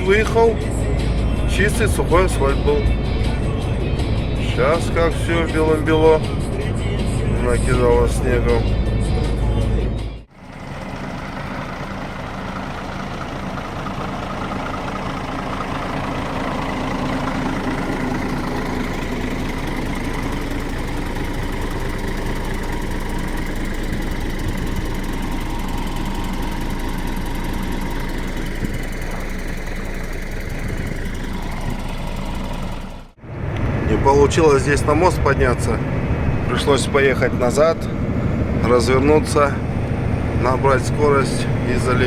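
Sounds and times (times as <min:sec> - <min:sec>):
road noise: 0:00.0 - 0:42.0
truck diesel engine running: 0:00.0 - 0:42.0.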